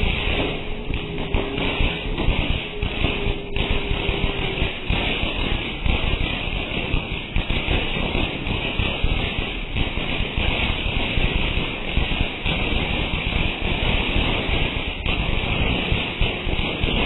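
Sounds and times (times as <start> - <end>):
fountain firework hissing and crackling: 0.0 - 17.0.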